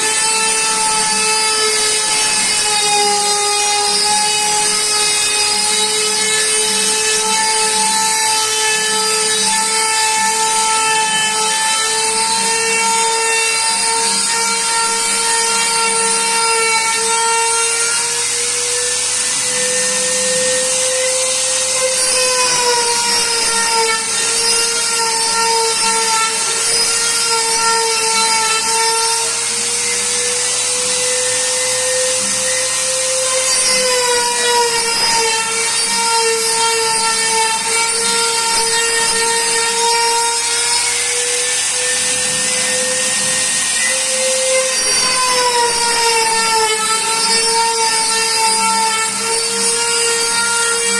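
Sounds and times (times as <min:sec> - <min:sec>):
router spindle whine: 0:00.0 - 0:50.9.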